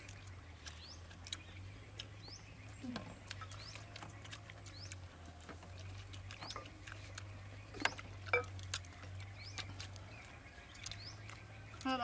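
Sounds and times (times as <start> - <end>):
people chewing and lip smacking: 0.0 - 12.0.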